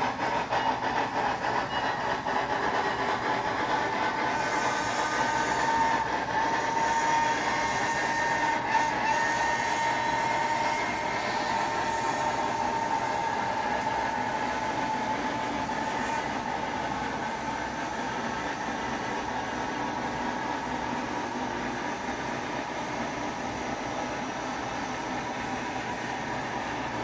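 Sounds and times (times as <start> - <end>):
steady whine-like tone: 0.0 - 27.0
steam hiss: 0.0 - 27.0.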